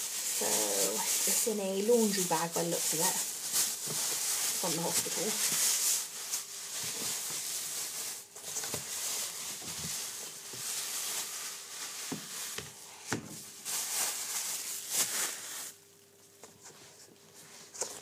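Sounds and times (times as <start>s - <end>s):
plastic bag rustling: 0.0s - 18.0s.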